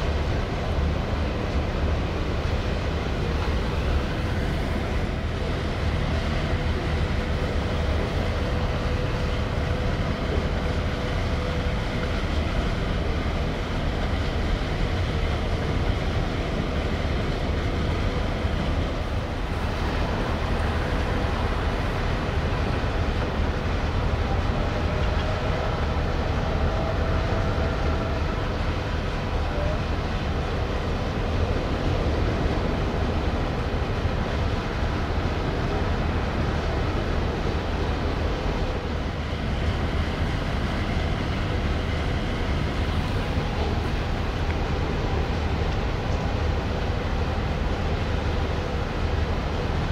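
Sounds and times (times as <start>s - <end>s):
ship engine rumble: 0.0s - 49.9s.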